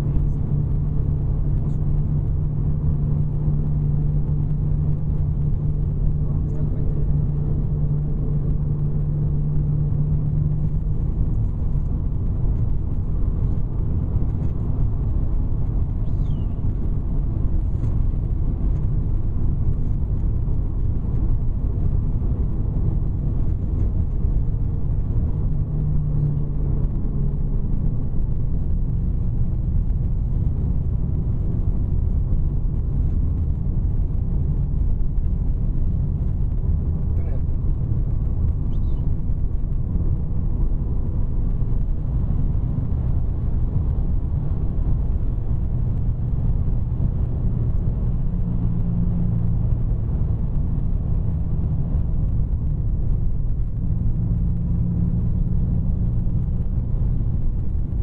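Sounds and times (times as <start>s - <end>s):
car cabin road rumble: 0.0s - 58.0s
low hum: 0.0s - 58.0s.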